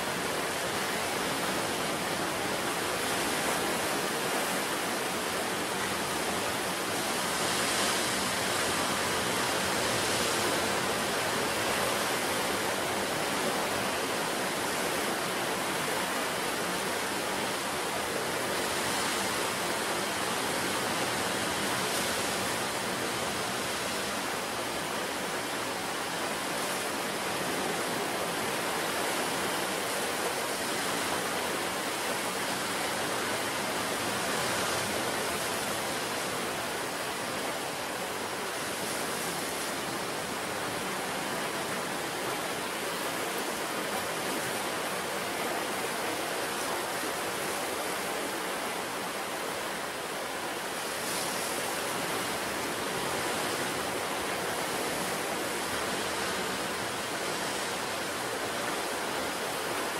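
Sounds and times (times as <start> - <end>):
ocean surf breaking on shore: 0.0 - 59.9.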